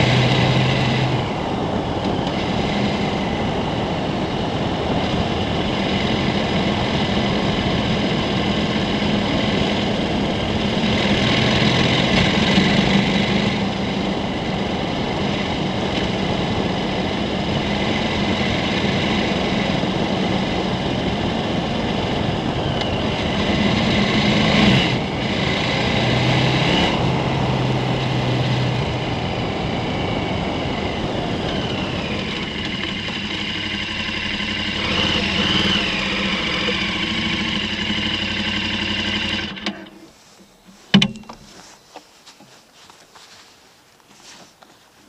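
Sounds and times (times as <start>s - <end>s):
motorcycle engine running: 0.0s - 43.5s
wind and road noise: 0.0s - 45.0s.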